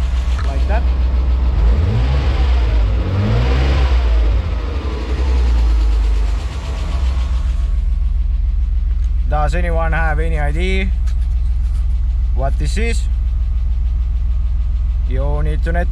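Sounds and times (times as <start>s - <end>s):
car engine revving and idling: 0.0s - 15.9s
engine ticking: 0.0s - 15.9s.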